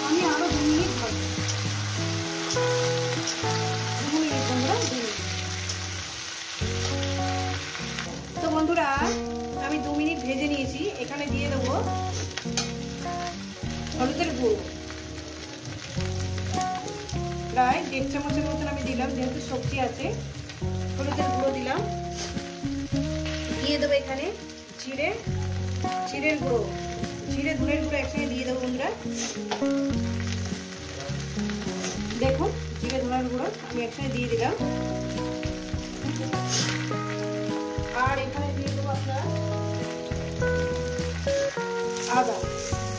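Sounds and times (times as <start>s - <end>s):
instrumental music: 0.0s - 42.9s
oil crackling: 0.0s - 42.9s
vegetables sizzling in oil: 0.0s - 42.9s.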